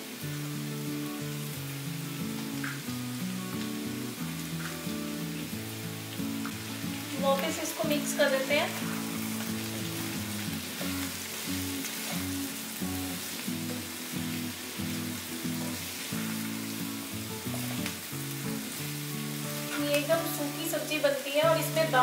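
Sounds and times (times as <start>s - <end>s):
soft background music: 0.0s - 22.0s
vegetables sizzling in oil: 0.0s - 22.0s.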